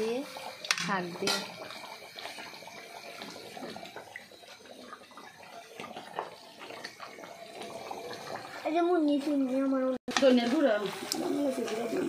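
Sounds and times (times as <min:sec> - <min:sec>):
curry simmering and bubbling: 0:00.0 - 0:12.0.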